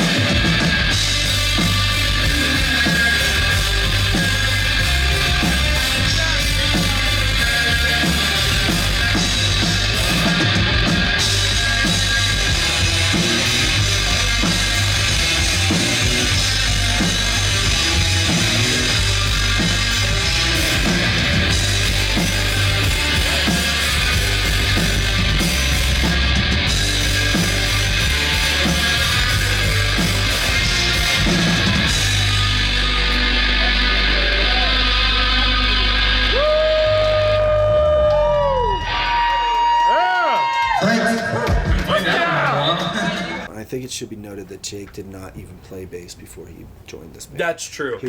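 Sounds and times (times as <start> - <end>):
heavy rock music: 0.0 - 39.7, 40.6 - 43.5
drum kit: 0.0 - 45.6.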